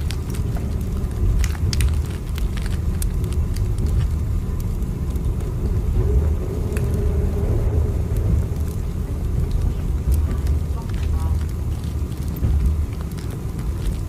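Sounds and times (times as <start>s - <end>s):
faint hum: 0.0s - 14.0s
train rumbling: 0.0s - 14.0s.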